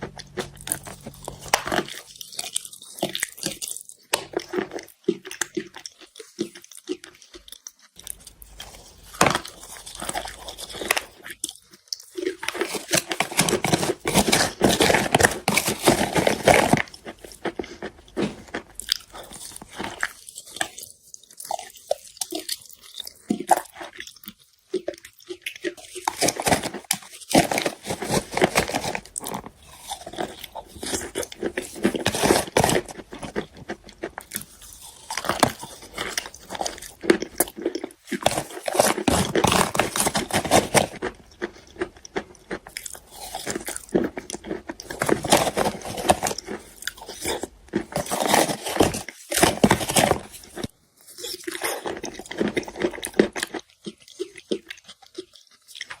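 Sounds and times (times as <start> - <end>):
chalk crunching while chewed: 0.0 - 56.0.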